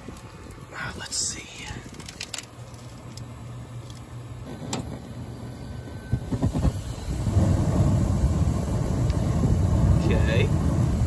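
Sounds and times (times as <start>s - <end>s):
heating unit low hum: 0.0s - 11.0s
rumbling rush of gas heater: 0.0s - 11.0s.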